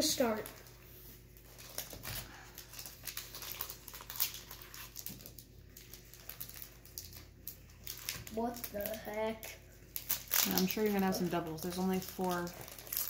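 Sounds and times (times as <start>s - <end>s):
foil wrappers crinkling and tearing: 0.0s - 13.0s.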